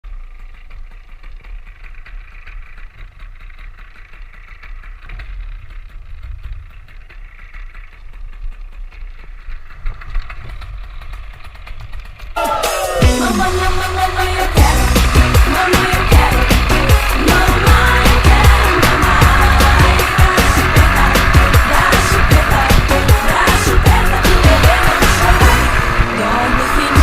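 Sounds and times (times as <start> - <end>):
paramotor engine running: 0.0 - 27.0.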